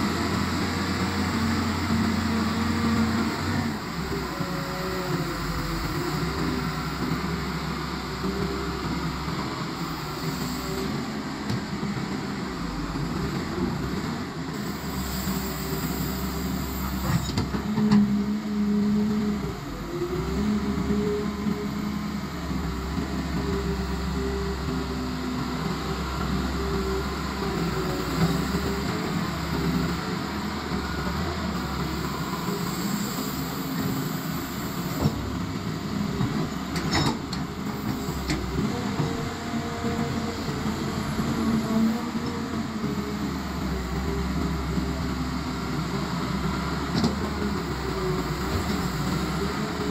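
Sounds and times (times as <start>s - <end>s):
excavator diesel engine under load: 0.0s - 49.9s.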